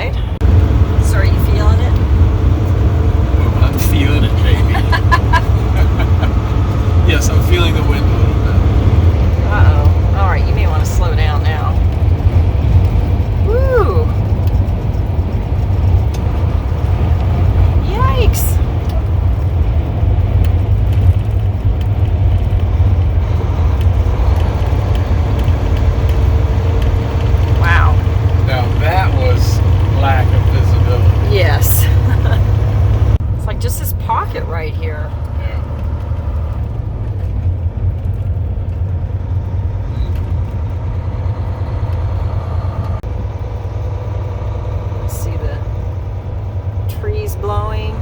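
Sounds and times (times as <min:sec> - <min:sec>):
truck engine and road rumble: 0:00.0 - 0:48.0
wind buffeting: 0:00.0 - 0:48.0.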